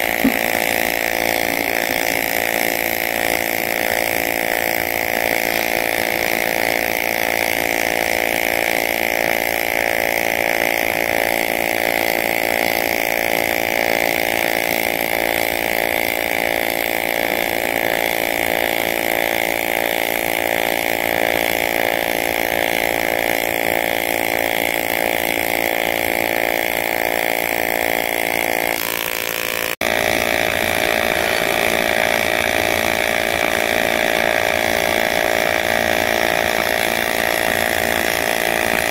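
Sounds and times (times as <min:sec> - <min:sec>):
welding arc buzzing: 0:00.0 - 0:38.9.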